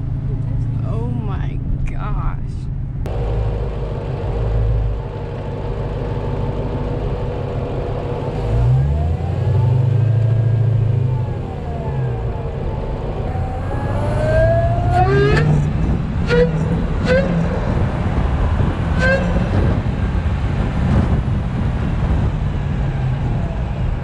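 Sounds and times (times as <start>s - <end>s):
car engine accelerating: 2.8s - 24.0s
supercharger whine: 2.8s - 24.0s.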